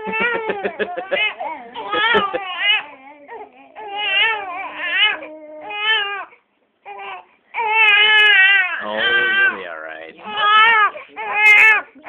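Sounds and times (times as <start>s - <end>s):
infant crying: 0.0s - 12.0s.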